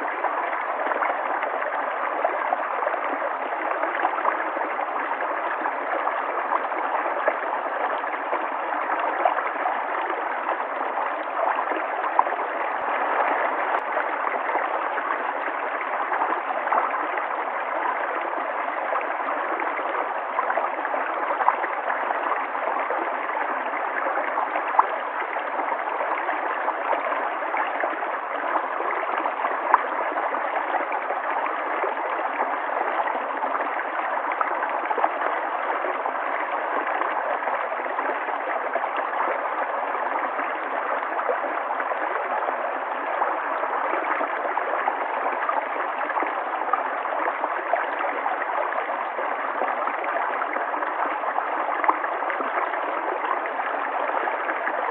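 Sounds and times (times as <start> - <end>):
river water flowing over stones: 0.0 - 54.9.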